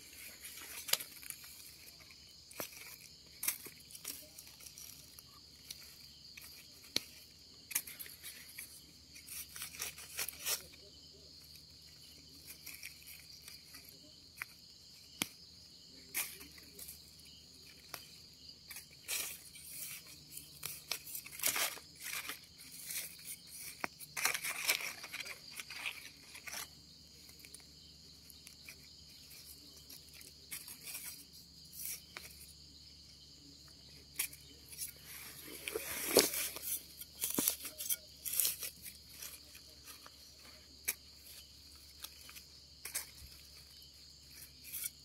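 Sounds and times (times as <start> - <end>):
rustling in dry leaf litter: 0.0 - 15.0, 15.9 - 32.6, 33.6 - 45.0
crickets chirping: 0.0 - 45.0.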